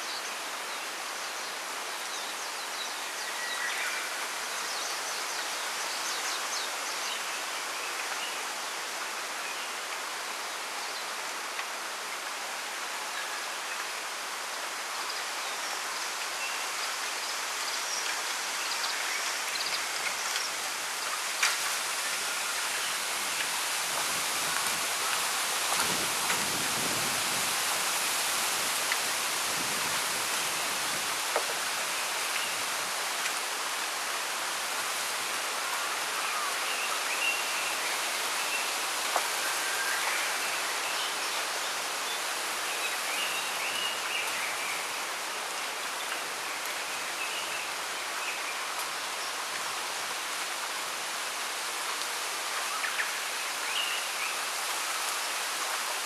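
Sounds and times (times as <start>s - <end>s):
wind rustling bamboo leaves: 0.0s - 56.0s.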